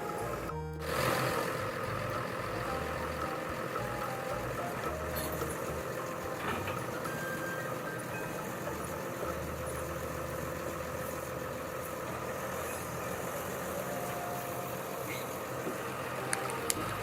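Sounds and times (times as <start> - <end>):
engine humming: 0.0 - 17.0
faint steady tone: 1.6 - 17.0.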